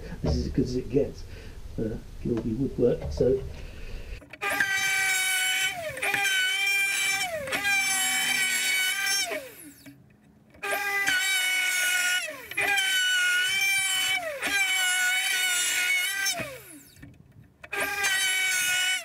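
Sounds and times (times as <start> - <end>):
electric router whining: 3.2 - 19.0.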